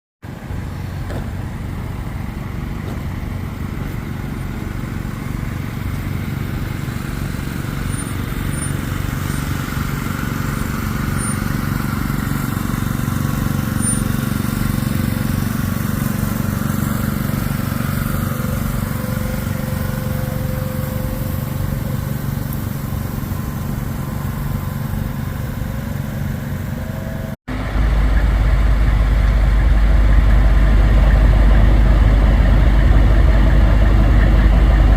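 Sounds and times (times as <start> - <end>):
deep engine: 0.2 - 34.9
heavy machinery engines droning: 0.2 - 34.9.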